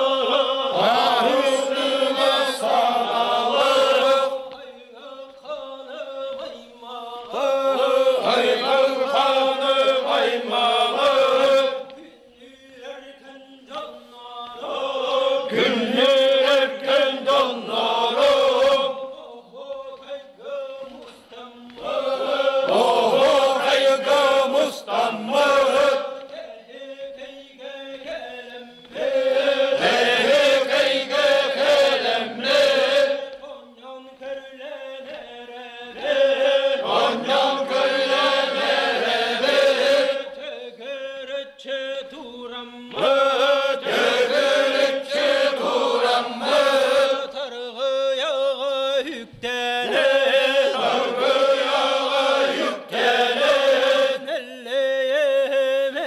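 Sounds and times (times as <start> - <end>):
lead voice singing: 0.0 - 56.0
men chanting in unison: 0.0 - 56.0.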